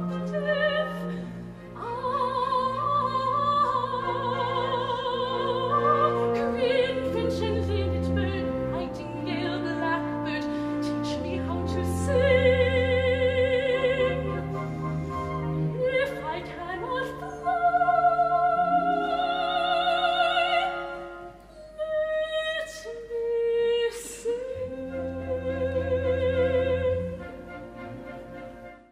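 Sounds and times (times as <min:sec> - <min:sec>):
soprano singing operatic: 0:00.0 - 0:14.6, 0:15.6 - 0:27.6
orchestra playing: 0:00.0 - 0:28.9.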